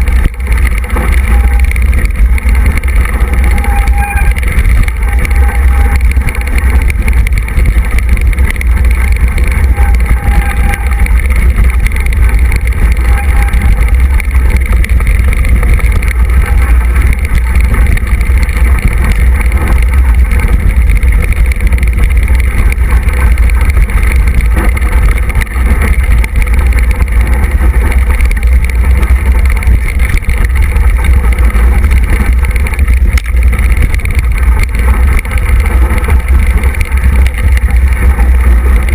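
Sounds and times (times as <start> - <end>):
bike tyres rumbling on dirt: 0.0 - 38.9
wind buffeting microphone: 0.0 - 38.9.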